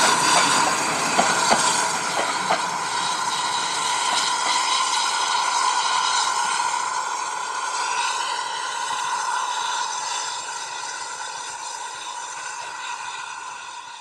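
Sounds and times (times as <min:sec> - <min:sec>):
steam locomotive whistle: 0:00.0 - 0:14.0.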